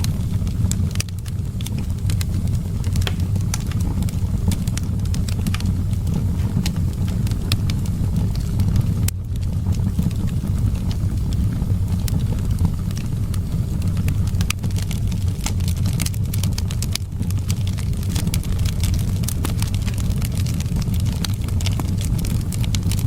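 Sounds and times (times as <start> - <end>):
low rumble of wind: 0.0 - 23.0
wood fire crackling: 0.0 - 23.0.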